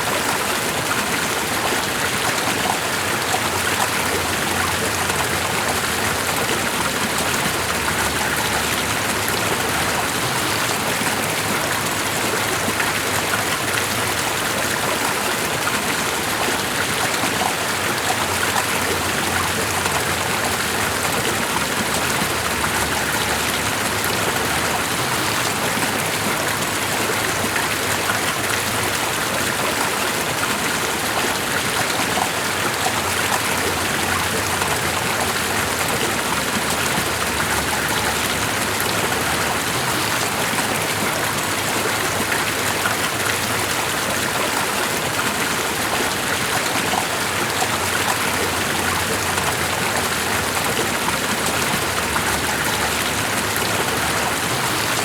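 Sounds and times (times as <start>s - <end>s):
stream flowing with splashing: 0.0s - 55.0s.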